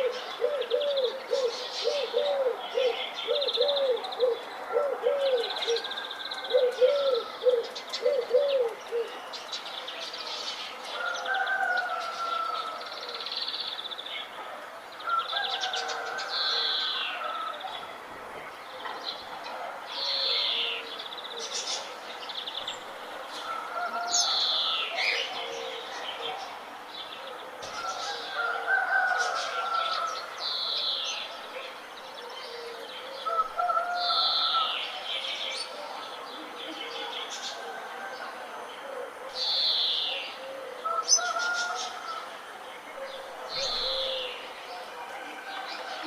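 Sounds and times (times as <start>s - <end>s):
birds chirping and singing: 0.0s - 14.4s, 18.5s - 46.0s.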